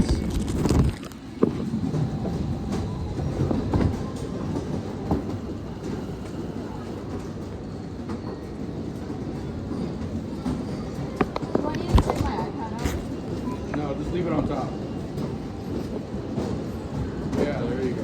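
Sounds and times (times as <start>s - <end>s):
conveyor belt rumbling: 0.0s - 18.0s.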